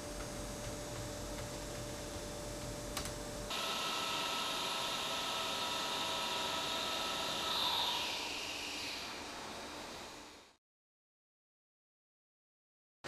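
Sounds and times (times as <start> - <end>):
mechanical hum and hiss: 0.0 - 10.6.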